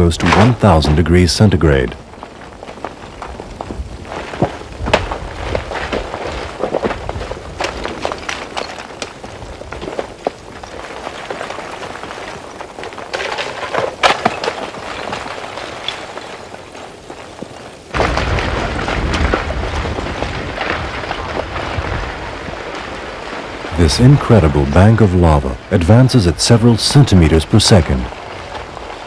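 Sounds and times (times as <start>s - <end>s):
lava crust cracking and tumbling: 0.0s - 29.0s.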